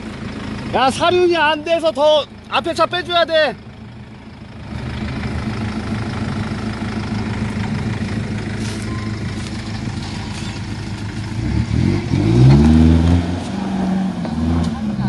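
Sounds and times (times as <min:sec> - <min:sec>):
suv engine running at low revs: 0:00.0 - 0:15.0.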